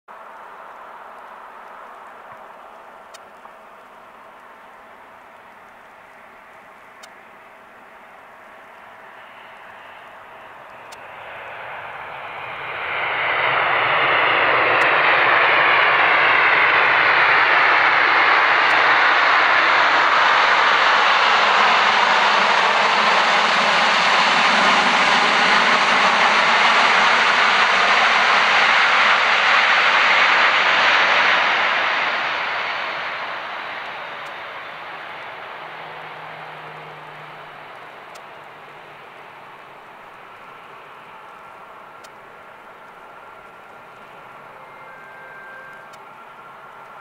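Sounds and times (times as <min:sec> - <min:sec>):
jet engines roaring: 0:00.2 - 0:47.0.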